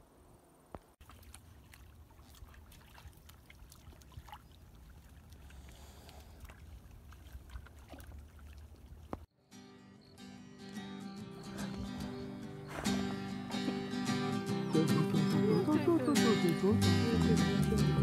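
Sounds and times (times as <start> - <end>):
dogs splashing in creek: 1.0 - 9.3, 11.5 - 18.0.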